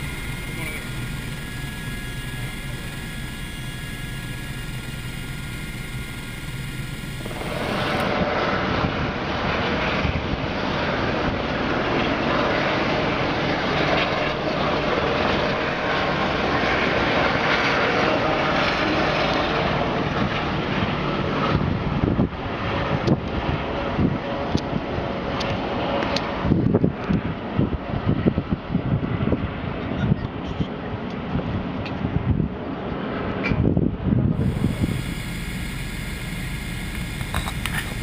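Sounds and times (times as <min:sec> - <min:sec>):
helicopter turbine whine: 0:00.0 - 0:38.0
helicopters flying past: 0:00.0 - 0:38.0.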